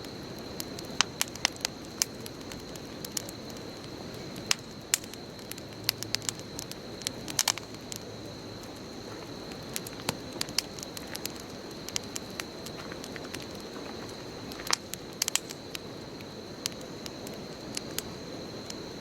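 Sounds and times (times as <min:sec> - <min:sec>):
bonfire flames rushing: 0:00.0 - 0:19.0
fire crackles and pops: 0:00.0 - 0:19.0.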